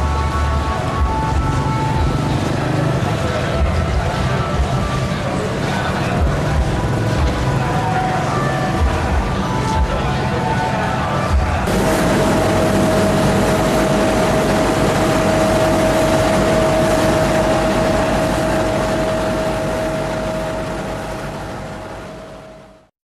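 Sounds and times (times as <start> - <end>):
truck engine running: 0.0 - 10.5, 11.3 - 22.9
steady whine: 0.0 - 22.9.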